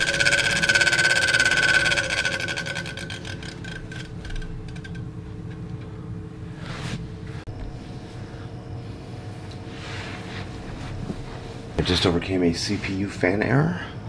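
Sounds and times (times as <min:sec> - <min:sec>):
computer fans whirring: 0:00.0 - 0:14.0.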